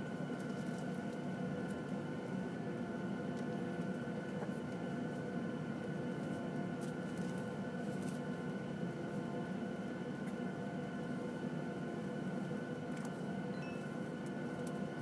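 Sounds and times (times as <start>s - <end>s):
jet engines idling in cabin: 0.0s - 15.0s.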